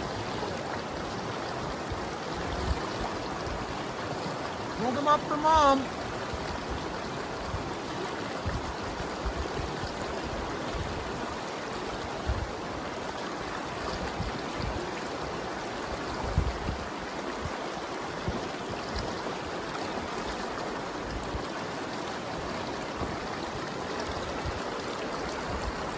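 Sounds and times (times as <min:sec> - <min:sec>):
flowing river water: 0:00.0 - 0:25.9.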